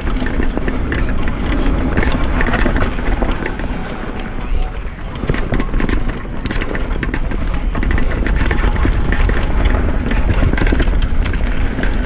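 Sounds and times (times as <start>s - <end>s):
bike rattling over bumps: 0.0s - 12.0s
bike tyres rumbling: 0.0s - 12.0s
wind: 0.0s - 12.0s.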